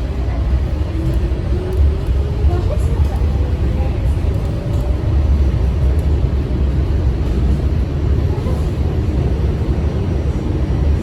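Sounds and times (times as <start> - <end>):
subway train wheels rumbling on rail: 0.0 - 11.0.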